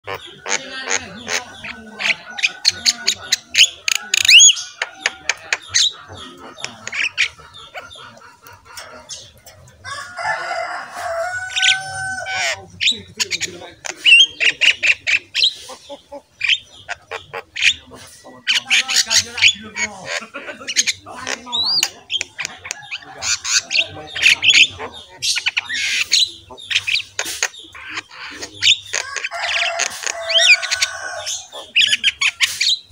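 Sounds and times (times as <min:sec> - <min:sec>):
birds calling and chirping: 0:00.0 - 0:32.9.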